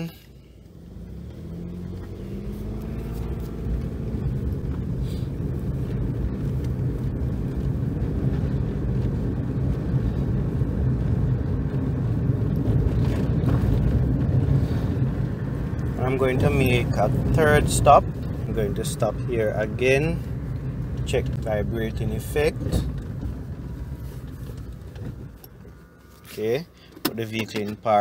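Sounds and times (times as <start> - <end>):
car engine under load: 0.0 - 28.0
road noise: 0.0 - 28.0.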